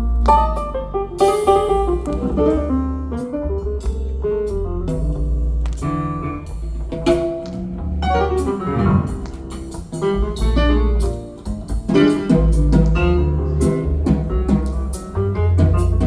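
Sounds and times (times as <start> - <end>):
jazz-blues guitar music on loudspeakers: 0.0 - 16.0.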